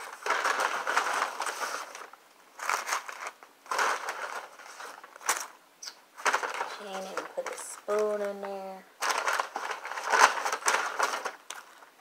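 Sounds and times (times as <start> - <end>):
paper bag rustling and crinkling: 0.0 - 5.6, 6.2 - 12.0.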